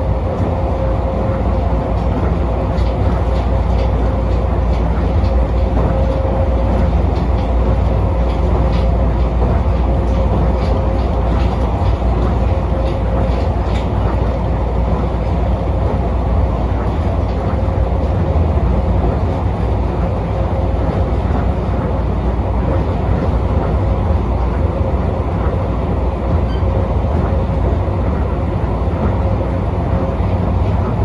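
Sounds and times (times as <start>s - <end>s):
train rumble on guideway: 0.0s - 31.0s.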